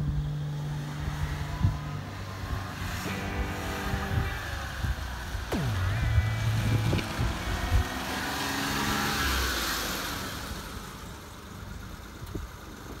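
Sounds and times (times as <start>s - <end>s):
small van engine driving past: 0.2s - 11.4s.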